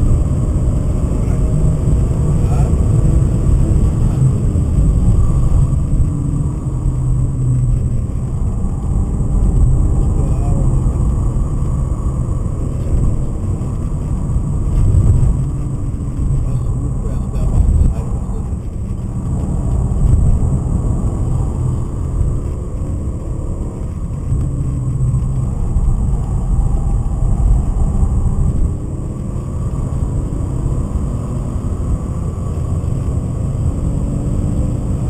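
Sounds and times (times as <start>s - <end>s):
car engine running hard: 0.0s - 35.0s
road and wind noise: 0.0s - 35.0s.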